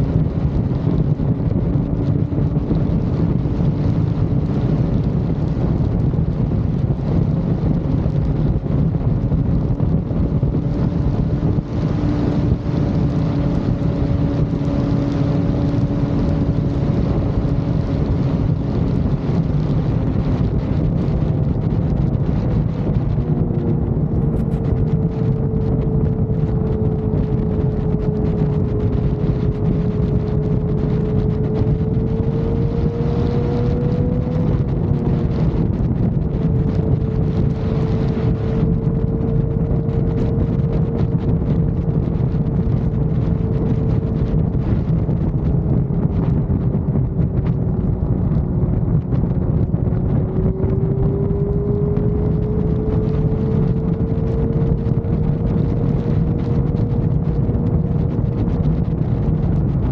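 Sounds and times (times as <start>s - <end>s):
vehicle engine drone: 0.0s - 59.9s
wind noise on microphone: 0.0s - 59.9s.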